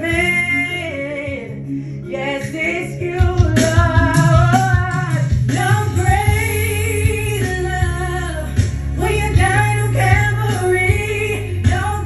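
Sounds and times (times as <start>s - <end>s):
musical accompaniment with bass: 0.0s - 12.0s
woman singing gospel: 0.0s - 12.0s.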